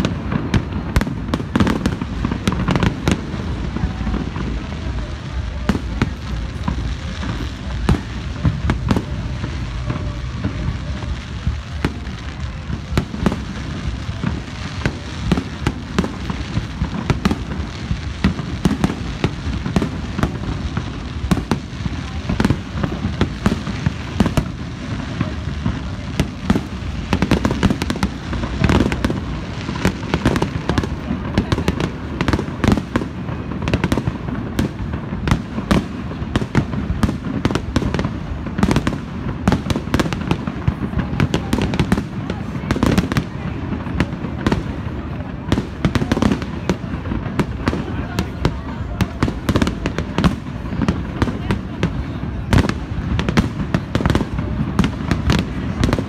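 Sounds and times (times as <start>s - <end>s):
firework bangs: 0.0s - 56.0s
firework booms: 0.0s - 56.0s
firework crackle: 0.0s - 56.0s.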